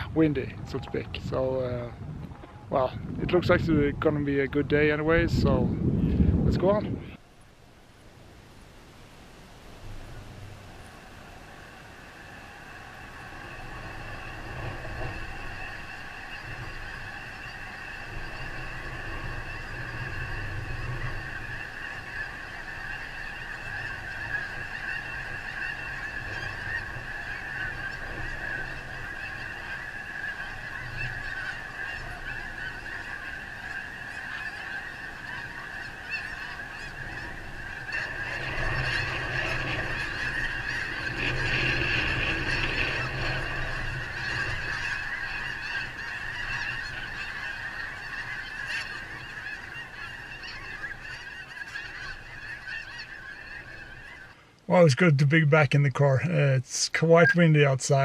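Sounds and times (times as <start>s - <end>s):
wind rumbling on microphone: 0.0s - 50.0s
geese honking: 0.0s - 58.0s.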